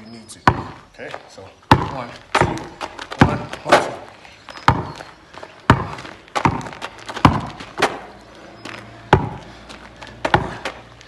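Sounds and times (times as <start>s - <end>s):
basketball bouncing on asphalt: 0.4s - 11.0s.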